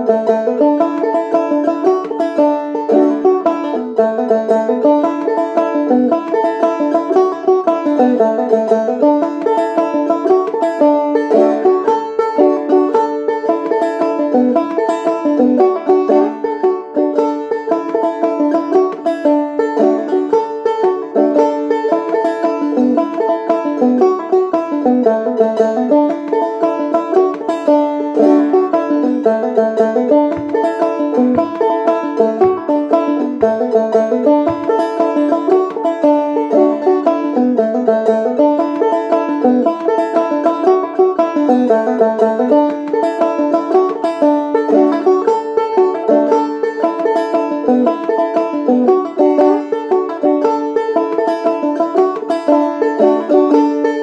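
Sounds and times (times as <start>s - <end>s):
banjo jig: 0.0s - 54.0s.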